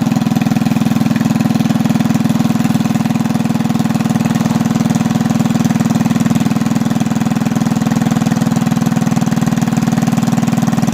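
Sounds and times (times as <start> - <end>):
mini bike engine idling: 0.0 - 10.9.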